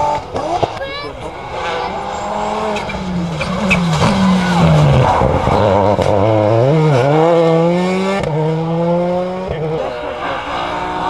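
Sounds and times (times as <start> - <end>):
rally car engine passing: 0.0 - 11.0.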